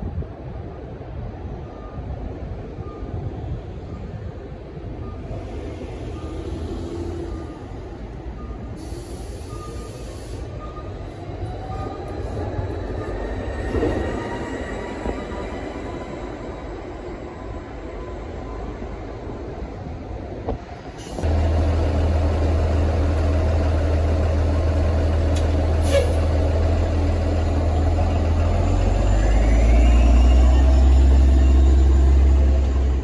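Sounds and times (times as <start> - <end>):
electric bus passing: 0.1 - 33.0.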